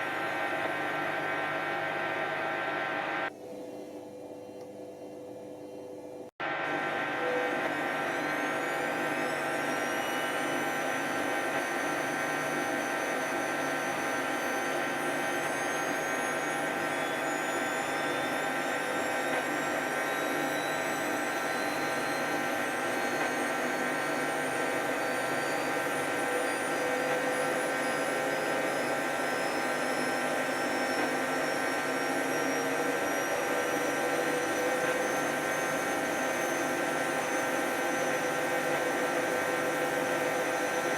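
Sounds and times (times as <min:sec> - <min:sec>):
washing machine spinning: 0:00.0 - 0:04.2, 0:06.4 - 0:40.9.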